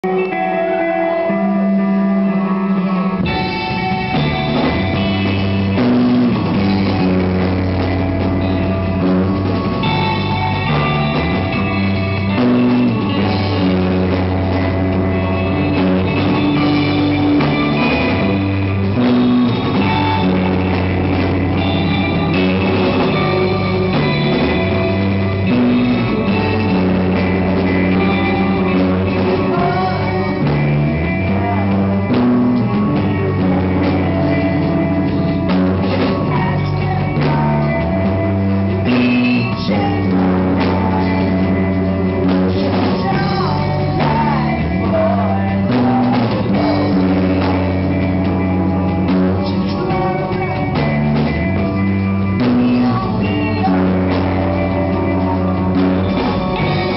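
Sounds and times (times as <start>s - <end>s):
person singing: 0.0s - 56.9s
rock band playing live: 0.0s - 56.9s.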